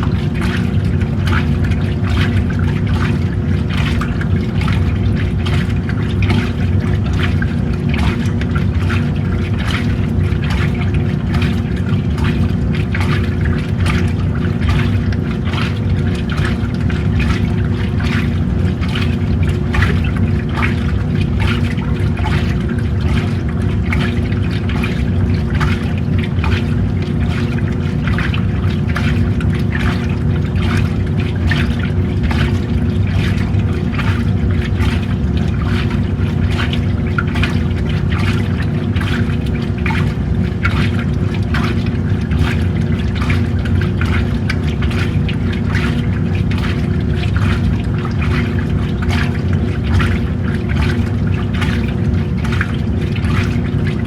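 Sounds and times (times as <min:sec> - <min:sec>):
washing machine motor hum: 0:00.0 - 0:54.0
water churning and splashing: 0:00.0 - 0:54.0.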